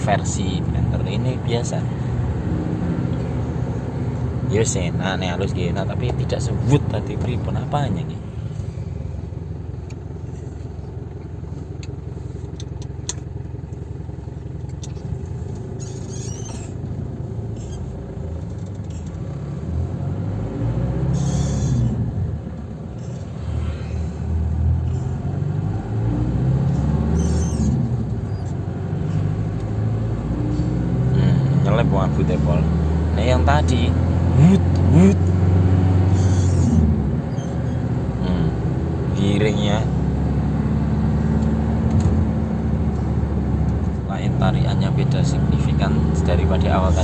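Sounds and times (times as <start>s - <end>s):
car engine hum: 0.0s - 47.0s
road noise inside car: 0.0s - 47.0s.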